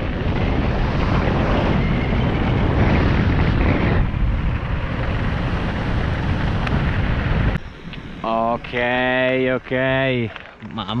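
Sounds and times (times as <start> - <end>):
bike tyres rumbling on pavement: 0.0 - 11.0
wind buffeting microphone: 0.0 - 11.0.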